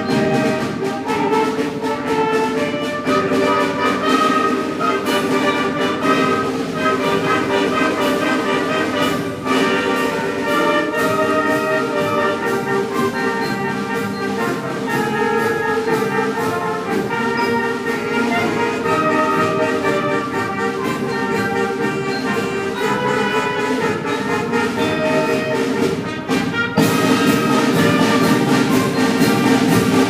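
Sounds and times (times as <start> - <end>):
concert band playing: 0.0 - 30.0.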